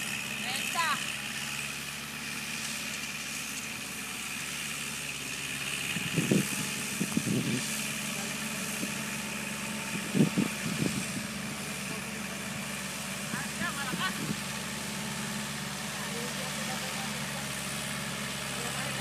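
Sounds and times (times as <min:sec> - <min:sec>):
distant tractor engine running: 0:00.0 - 0:19.0.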